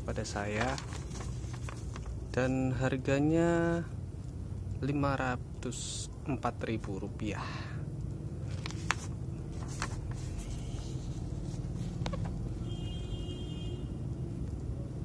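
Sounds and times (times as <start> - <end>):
low background rumble: 0.0 - 14.9.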